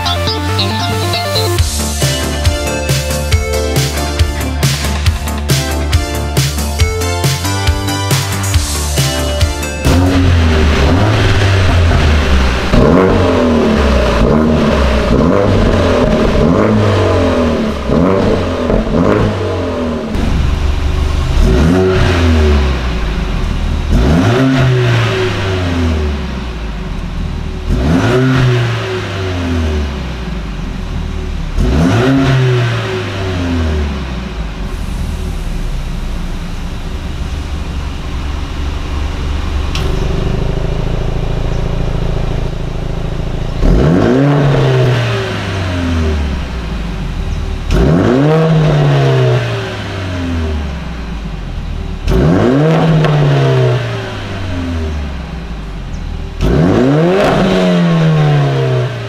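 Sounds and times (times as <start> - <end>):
car engine idling: 0.0 - 59.0
car engine revving: 0.0 - 59.0.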